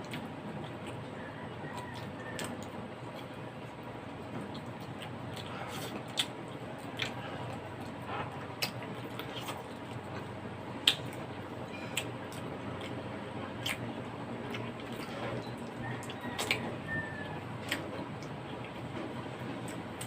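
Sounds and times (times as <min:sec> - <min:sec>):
chewing: 0:00.0 - 0:20.0
low background hum: 0:00.0 - 0:20.0.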